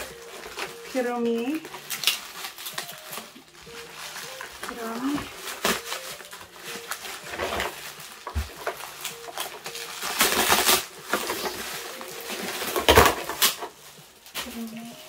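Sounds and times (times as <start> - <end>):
bubble wrap rustling and crinkling: 0.0 - 15.0.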